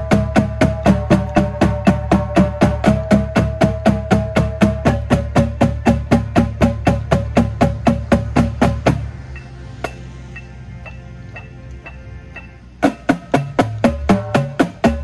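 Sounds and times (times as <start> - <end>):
drum corps playing unison strokes: 0.0 - 15.0.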